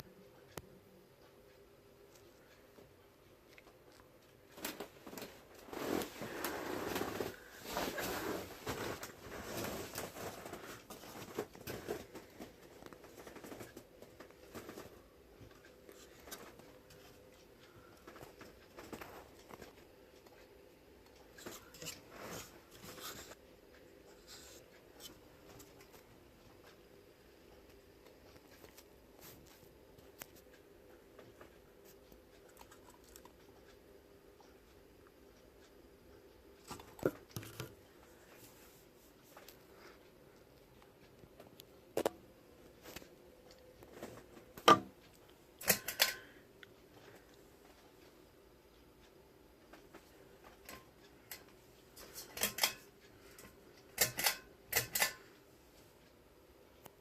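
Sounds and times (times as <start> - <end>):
ceiling fan motor hum: 0.0 - 57.0.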